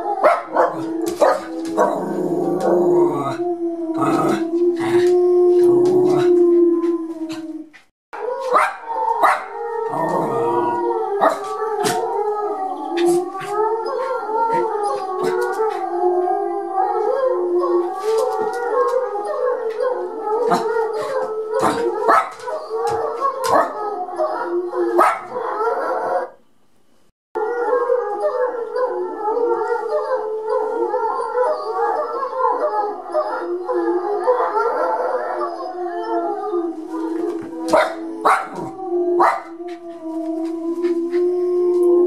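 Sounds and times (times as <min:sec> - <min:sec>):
wolves howling: 0:00.0 - 0:26.4, 0:27.4 - 0:42.0.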